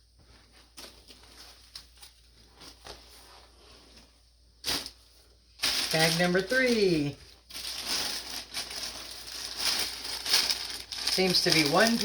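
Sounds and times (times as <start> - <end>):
plastic bags rustling: 0.4 - 12.0.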